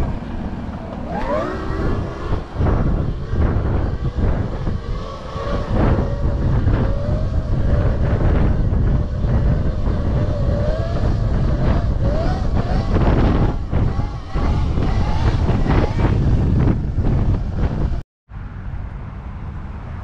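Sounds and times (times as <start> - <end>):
electric motorbike motor whining: 0.0 - 18.0
wind rumble on microphone: 0.0 - 20.0.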